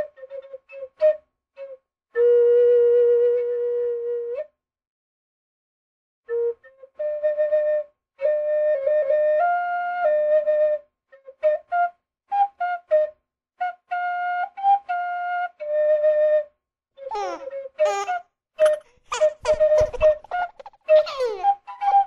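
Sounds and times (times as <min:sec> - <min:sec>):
flute-like whistled notes: 0:00.0 - 0:04.6, 0:06.2 - 0:22.0.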